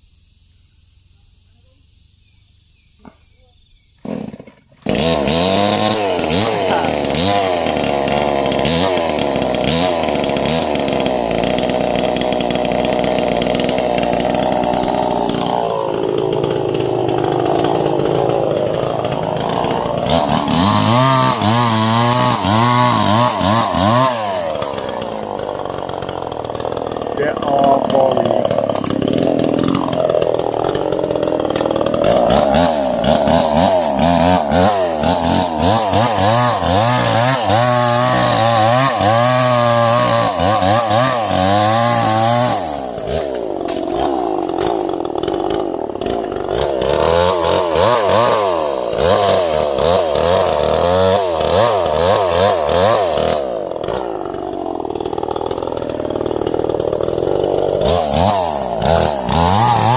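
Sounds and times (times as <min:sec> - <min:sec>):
chainsaw cutting trees: 0:02.8 - 0:59.9.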